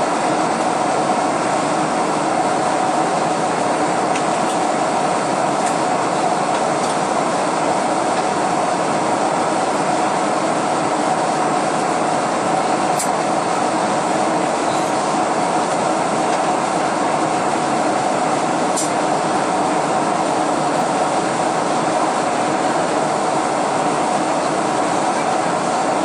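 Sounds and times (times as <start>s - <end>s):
airplane cabin engine rush: 0.0s - 26.0s.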